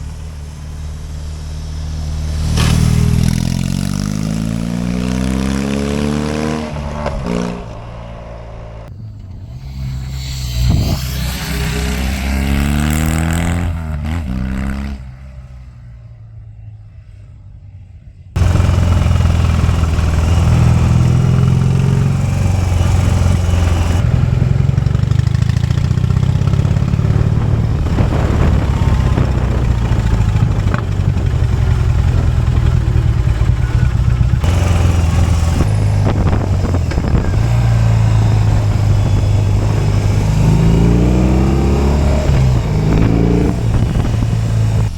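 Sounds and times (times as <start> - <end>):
motorcycle engine revving: 0.0 - 15.9, 18.4 - 44.9.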